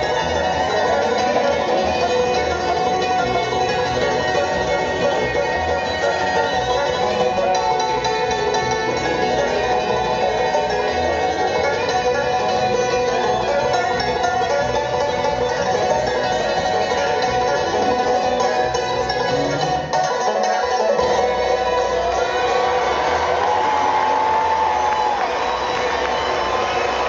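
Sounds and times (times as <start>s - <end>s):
bluegrass band playing: 0.0s - 27.0s.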